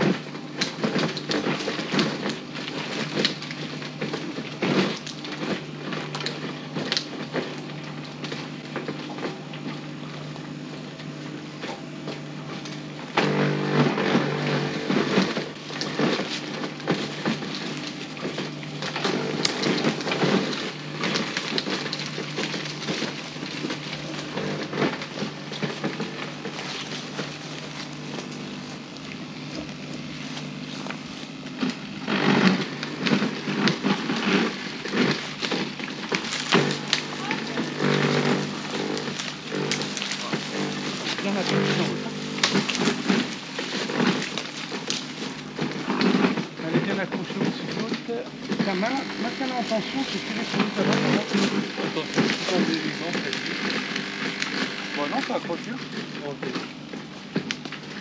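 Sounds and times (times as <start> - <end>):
chainsaw cutting branches: 0.0 - 58.0
wood and twigs crackling: 0.4 - 11.2, 11.8 - 58.0.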